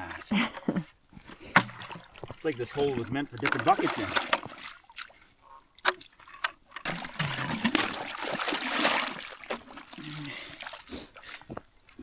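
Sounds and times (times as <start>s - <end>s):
water splashing and sloshing: 1.2s - 12.0s.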